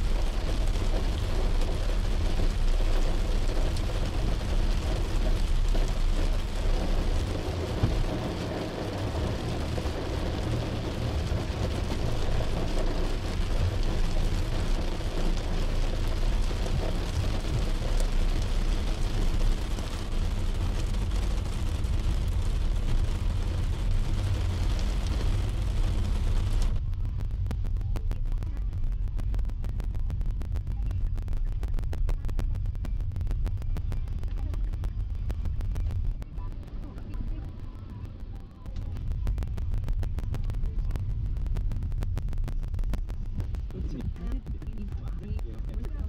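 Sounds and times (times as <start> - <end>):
car road and engine rumble: 0.0 - 46.0
heavy rain on car roof: 0.0 - 46.0.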